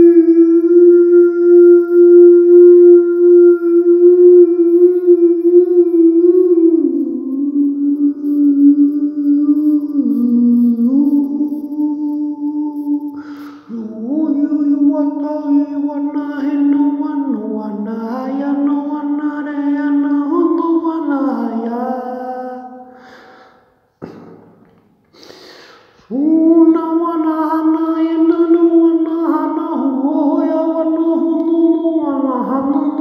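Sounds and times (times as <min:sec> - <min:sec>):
man singing wordless tones: 0:00.0 - 0:23.7, 0:26.0 - 0:33.0.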